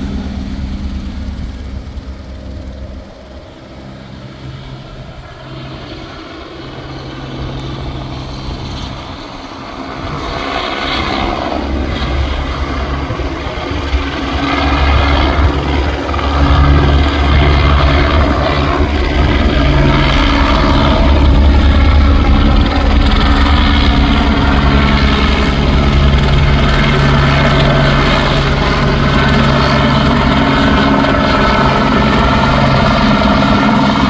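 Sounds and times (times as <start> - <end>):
helicopter engine and rotor: 0.0 - 34.0.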